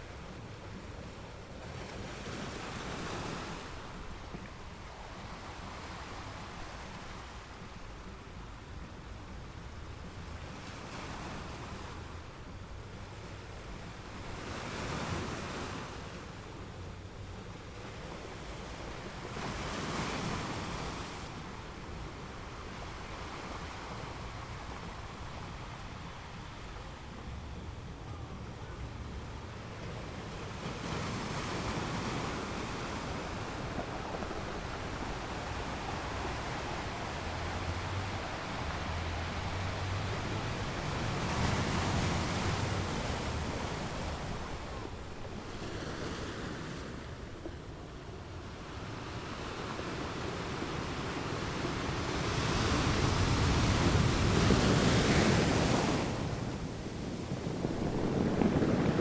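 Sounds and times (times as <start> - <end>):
ocean waves washing onto shore: 0.0 - 59.0.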